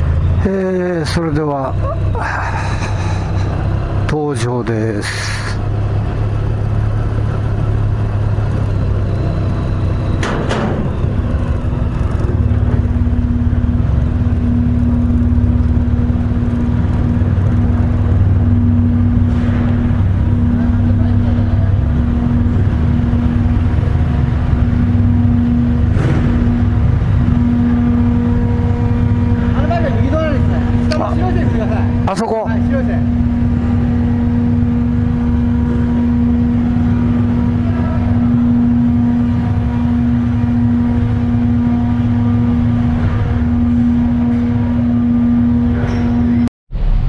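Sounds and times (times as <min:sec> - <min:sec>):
steady hum: 0:00.0 - 0:47.0
motorcycle engine running slowly: 0:05.6 - 0:46.5.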